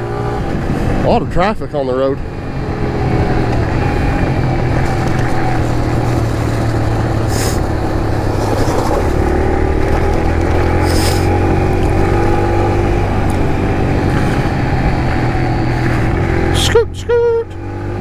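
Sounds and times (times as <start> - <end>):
small motorcycle engine cruising: 0.0 - 18.0.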